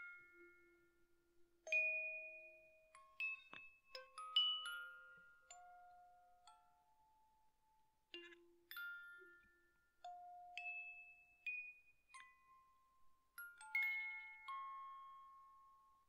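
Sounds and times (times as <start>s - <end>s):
slow bell-like music: 0.0s - 16.0s.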